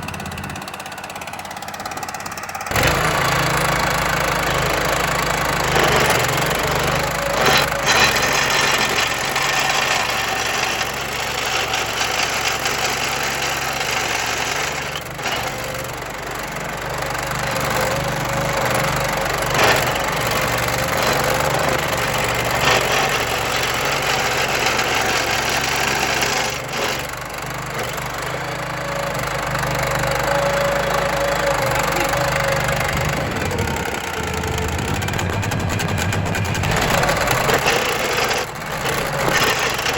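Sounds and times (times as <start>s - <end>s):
engine running: 0.0s - 39.9s
stump grinder cutter grinding wood: 0.0s - 39.9s.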